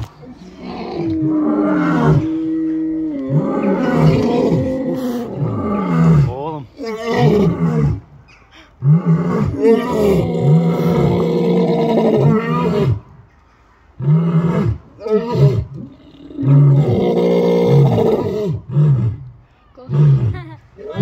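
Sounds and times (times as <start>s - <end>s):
lions roaring: 0.0s - 8.1s, 8.8s - 13.0s, 14.0s - 19.2s.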